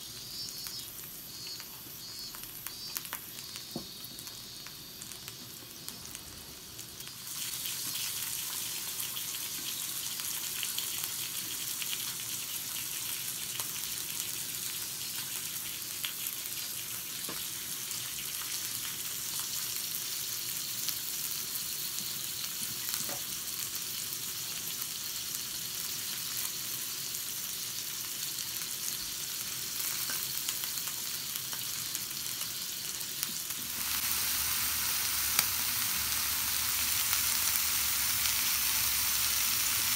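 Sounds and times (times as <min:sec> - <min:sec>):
food sizzling in a skillet: 0:00.0 - 0:39.9.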